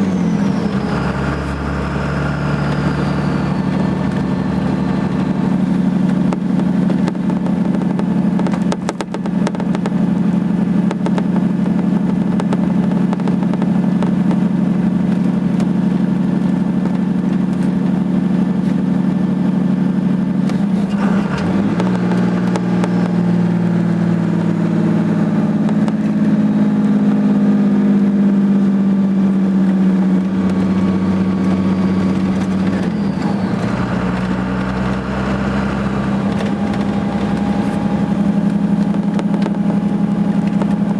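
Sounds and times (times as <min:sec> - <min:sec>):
diesel engine exhaust braking: 0:00.0 - 0:40.9.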